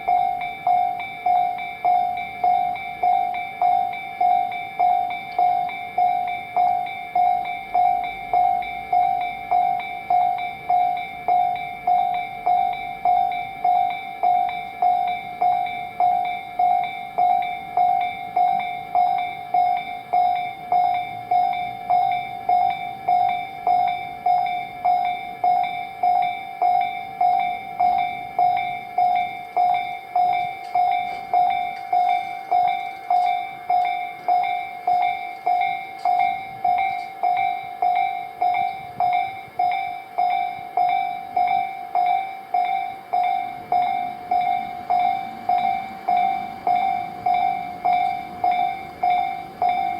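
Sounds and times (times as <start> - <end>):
level crossing bell ringing: 0.0 - 49.9.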